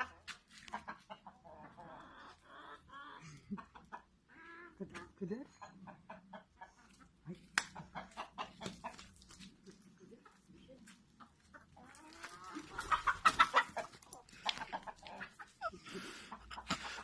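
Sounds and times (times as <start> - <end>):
roosters clucking: 0.0 - 17.0.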